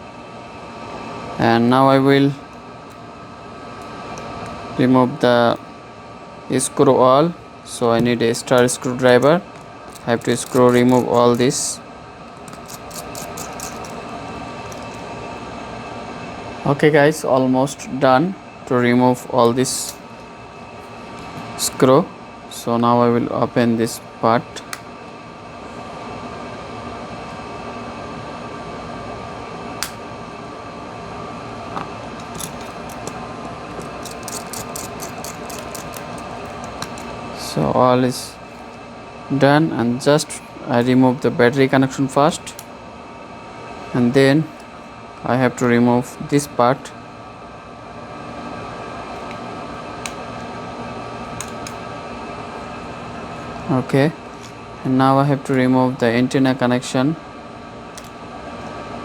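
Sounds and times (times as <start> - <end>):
fan humming: 0.0 - 59.0.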